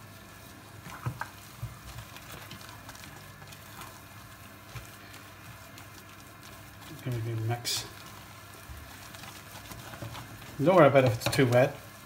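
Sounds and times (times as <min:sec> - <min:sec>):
spatula squelching in mashed potato: 0:00.0 - 0:12.0.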